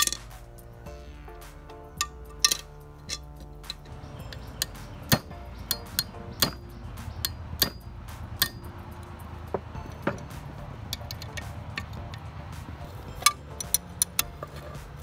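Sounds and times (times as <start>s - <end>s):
steel tool clinking on metal: 0.0s - 0.6s, 1.6s - 12.3s, 12.9s - 15.0s.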